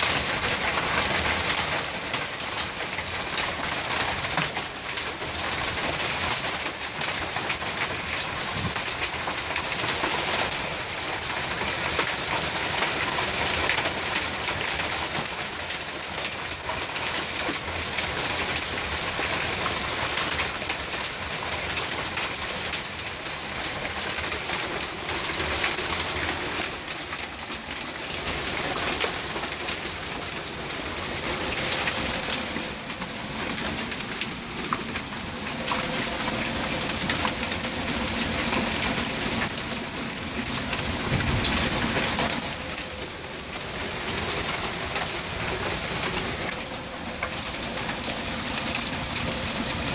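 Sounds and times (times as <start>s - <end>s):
hail and rain pattering: 0.0s - 49.9s.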